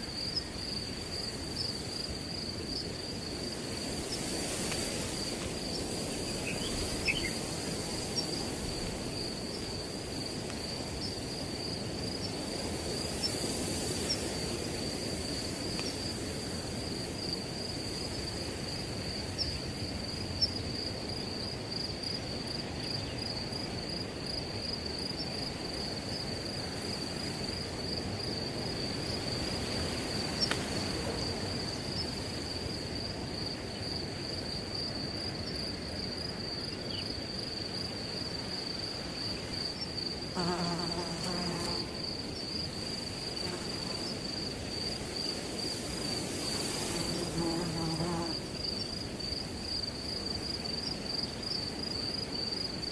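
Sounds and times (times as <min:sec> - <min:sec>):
crickets trilling: 0:00.0 - 0:52.9
wind rustling through grass: 0:00.0 - 0:52.9.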